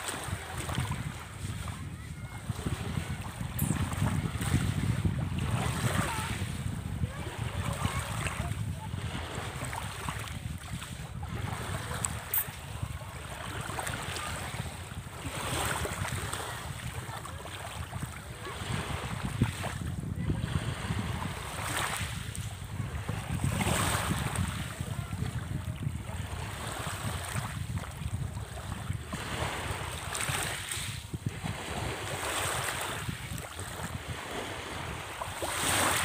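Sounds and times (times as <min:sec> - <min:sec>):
sea waves washing in: 0:00.0 - 0:36.0
wind rumbling on microphone: 0:00.0 - 0:36.0.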